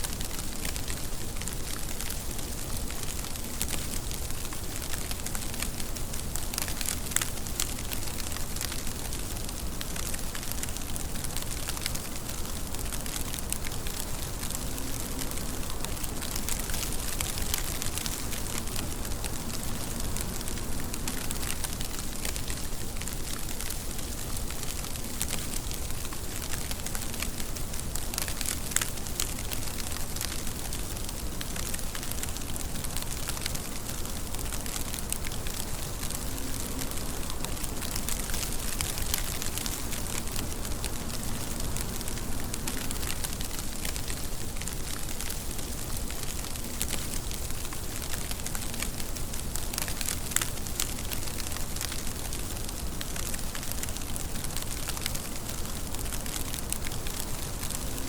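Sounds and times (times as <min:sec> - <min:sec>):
rain drop ticks: 0:00.0 - 0:58.0
steady rain falling: 0:00.0 - 0:58.0.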